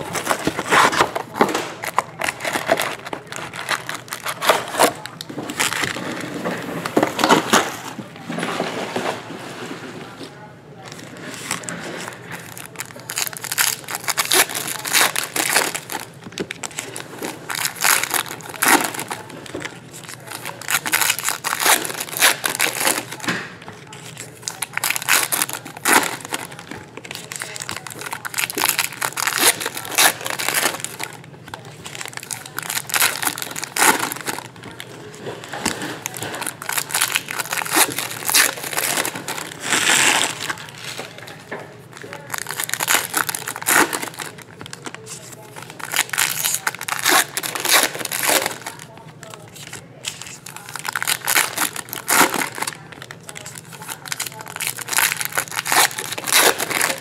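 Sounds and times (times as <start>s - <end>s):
plastic wrappers crinkling and tearing: 0.0s - 9.2s, 10.0s - 57.0s.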